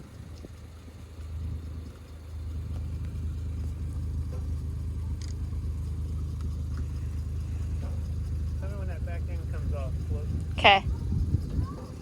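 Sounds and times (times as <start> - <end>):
truck engine humming at low revs: 0.0 - 12.0.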